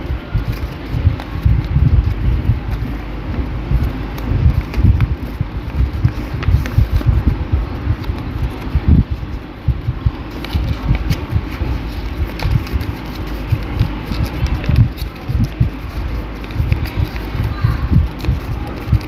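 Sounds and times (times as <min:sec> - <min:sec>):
microphone rubbing on clothing: 0:00.0 - 0:19.0
paper being folded and creased: 0:00.0 - 0:19.0.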